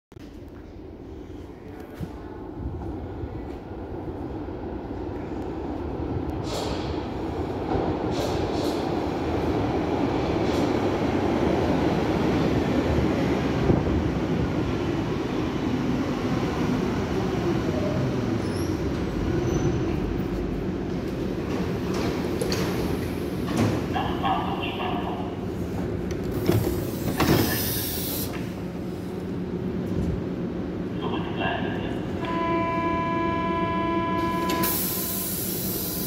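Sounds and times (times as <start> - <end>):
train rumble: 0.2 - 36.0.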